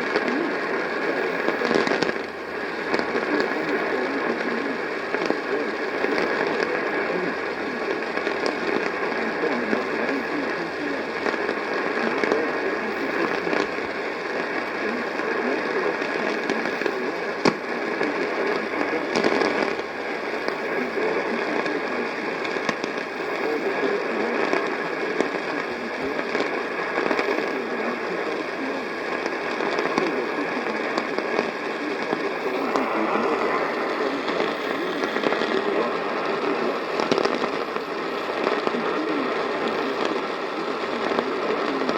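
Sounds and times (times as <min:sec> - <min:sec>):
radio static hiss: 0:00.0 - 0:41.9
static crackles: 0:00.0 - 0:41.9.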